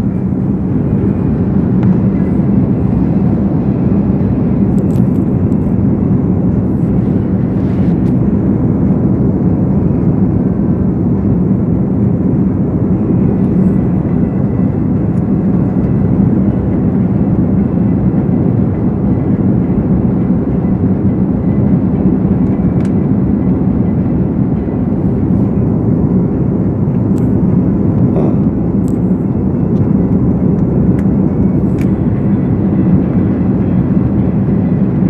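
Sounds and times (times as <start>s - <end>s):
jet airliner cabin noise: 0.0s - 35.0s.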